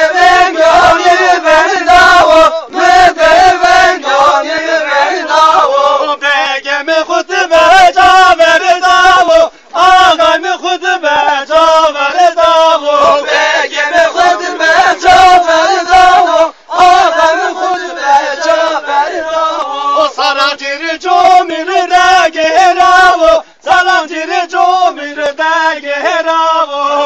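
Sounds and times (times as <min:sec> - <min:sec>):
group singing folk song in unison: 0:00.0 - 0:27.0.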